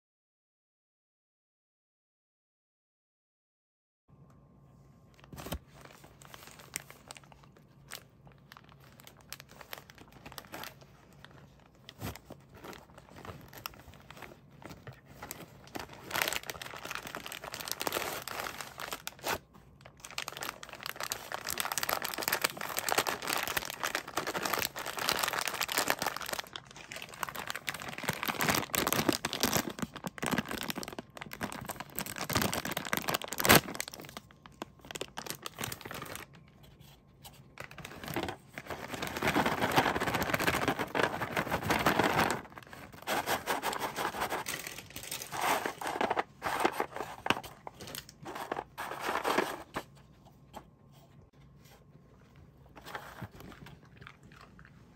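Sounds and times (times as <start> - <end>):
plastic bag crinkling: 5.2 - 36.8, 37.5 - 50.0.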